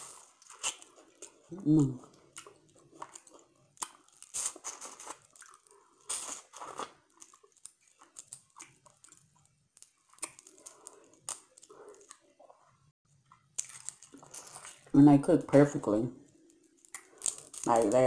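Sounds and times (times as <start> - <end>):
shrimp shell crackling as peeled: 0.0 - 12.4, 13.4 - 15.0, 16.4 - 18.0
chewing: 0.0 - 14.9, 16.4 - 17.8.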